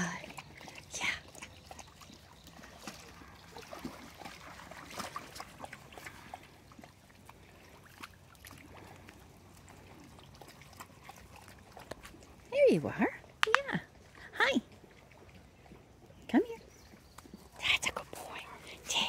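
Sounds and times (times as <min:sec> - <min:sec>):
dogs lapping water: 0:00.0 - 0:19.0
dogs splashing in water: 0:00.0 - 0:19.0.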